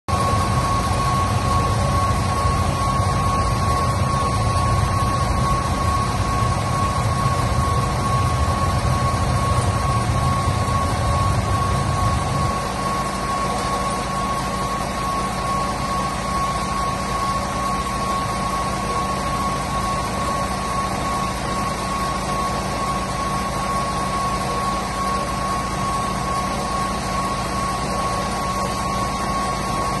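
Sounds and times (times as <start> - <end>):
steady high whine: 0.1 - 30.0.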